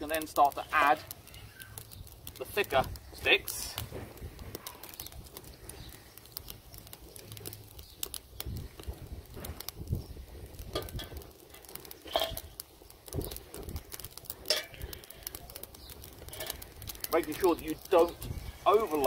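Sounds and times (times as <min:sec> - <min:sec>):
twigs snapping in fire: 0:00.0 - 0:19.0
wood fire crackling: 0:00.0 - 0:19.0.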